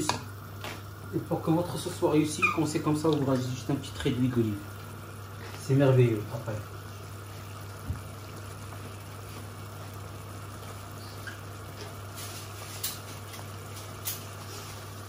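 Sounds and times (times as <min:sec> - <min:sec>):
sauce bubbling in pot: 0:00.0 - 0:15.0.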